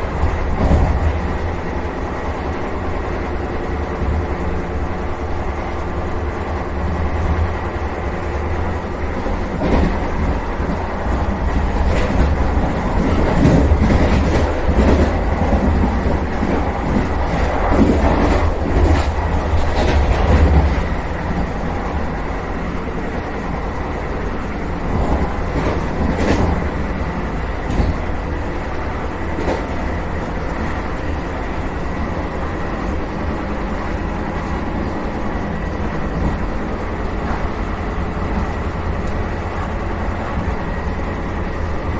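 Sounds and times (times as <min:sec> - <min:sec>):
electric train hum: 0:00.0 - 0:41.9.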